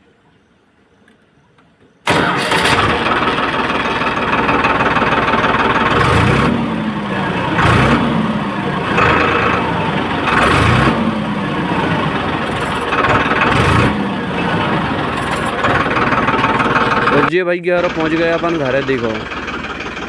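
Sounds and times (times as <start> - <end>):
tractor diesel engine revving: 2.1 - 20.0.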